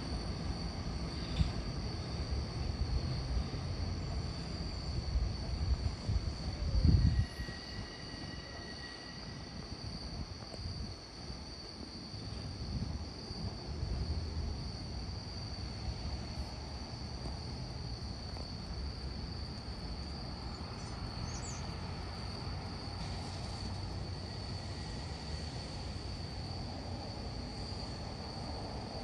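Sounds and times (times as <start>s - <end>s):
electric train rumbling: 0.0s - 29.0s
insects trilling: 0.0s - 29.0s.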